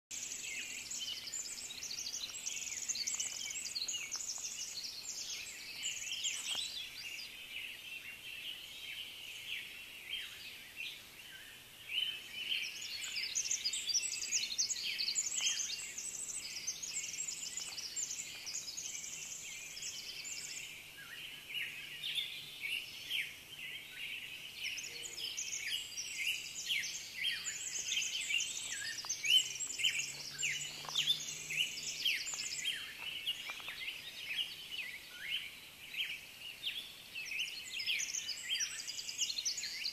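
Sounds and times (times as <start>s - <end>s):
songbirds singing: 0.1s - 39.9s.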